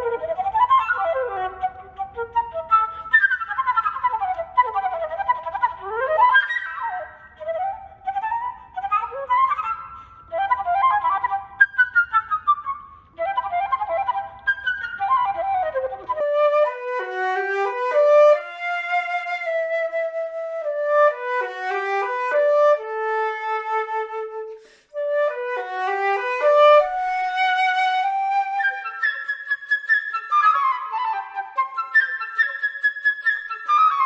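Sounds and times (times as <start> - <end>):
flute melody: 0.0 - 34.0.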